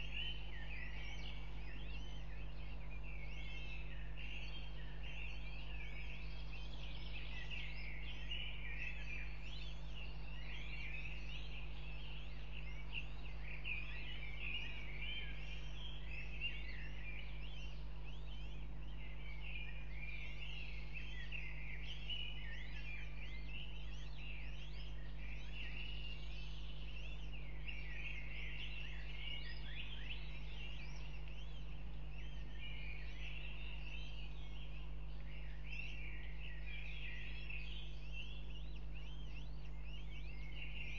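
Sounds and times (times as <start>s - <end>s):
bird chicks peeping: 0.0s - 40.9s
low electrical hum: 0.0s - 40.9s.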